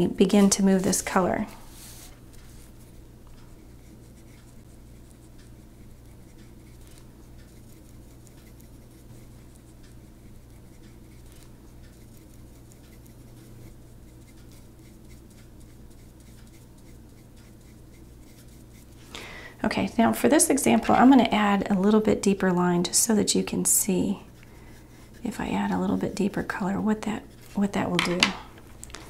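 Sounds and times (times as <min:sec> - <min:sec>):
paintbrush stroking paper: 0:00.2 - 0:19.1, 0:19.8 - 0:28.0.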